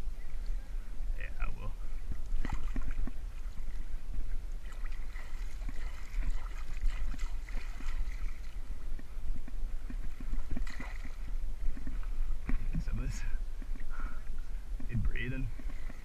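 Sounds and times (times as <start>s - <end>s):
steady low rumble: 0.0s - 16.0s
water lapping around boat: 0.0s - 16.0s.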